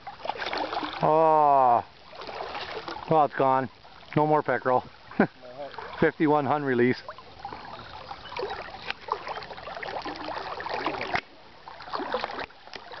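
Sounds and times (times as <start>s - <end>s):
river water trickling and gurgling: 0.0s - 13.0s
small splashes: 0.0s - 13.0s.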